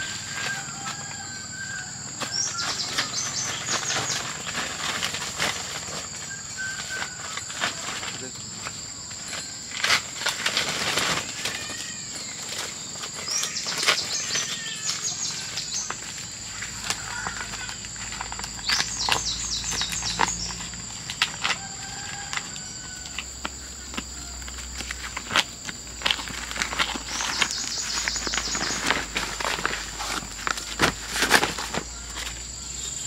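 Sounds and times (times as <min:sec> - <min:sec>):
insects droning: 0:00.0 - 0:33.0
rustles and clicks: 0:00.0 - 0:33.0.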